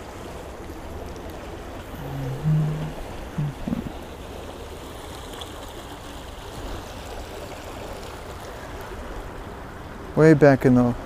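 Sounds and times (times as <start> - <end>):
stream water rushing: 0.0 - 10.3.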